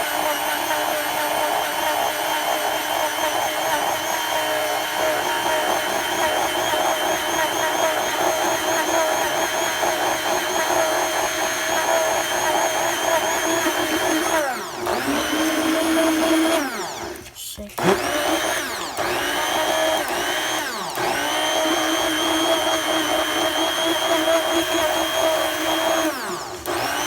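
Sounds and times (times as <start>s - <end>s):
electric blender running: 0.0s - 27.0s.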